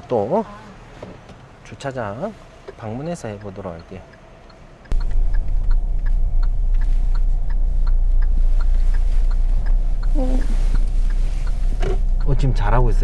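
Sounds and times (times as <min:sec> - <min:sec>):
turn signal ticking: 0:01.3 - 0:13.0
low rumble inside car: 0:01.9 - 0:13.0.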